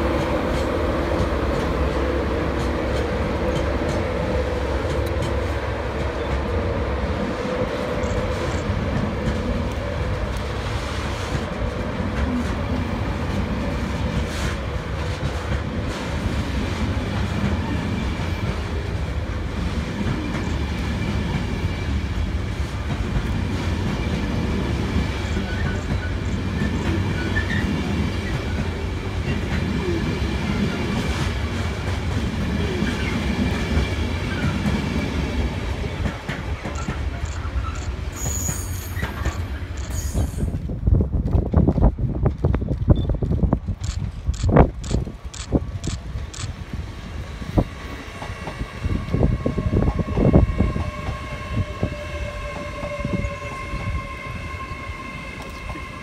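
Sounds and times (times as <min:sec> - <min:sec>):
electric locomotive hum: 0:00.0 - 0:56.0
train wheels rolling on rails: 0:00.0 - 0:56.0.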